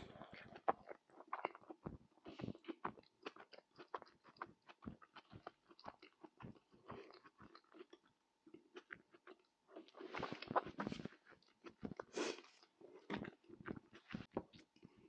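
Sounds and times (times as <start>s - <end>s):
close chewing clicks and crunches: 0.3s - 15.0s.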